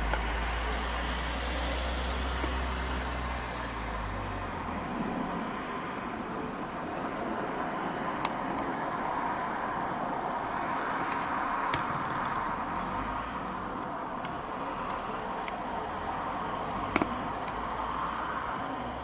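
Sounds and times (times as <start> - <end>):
distant city traffic hum: 0.0 - 19.0.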